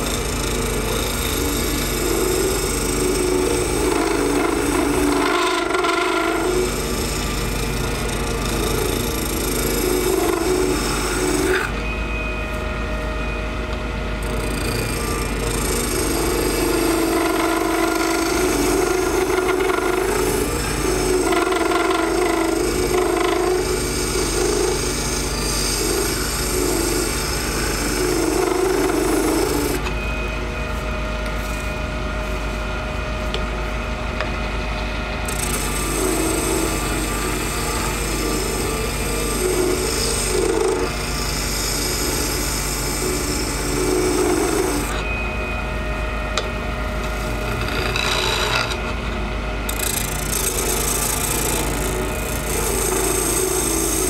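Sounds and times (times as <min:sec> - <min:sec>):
chisel cutting resin: 0:00.0 - 0:11.8, 0:14.2 - 0:29.9, 0:35.2 - 0:45.1, 0:46.4 - 0:49.1, 0:49.7 - 0:54.0
lathe running: 0:00.0 - 0:54.0.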